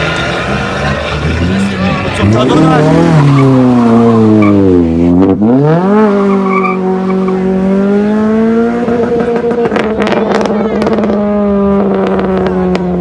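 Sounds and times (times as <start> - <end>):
car engine revving hard: 0.0 - 13.0
tyres skidding: 0.0 - 13.0.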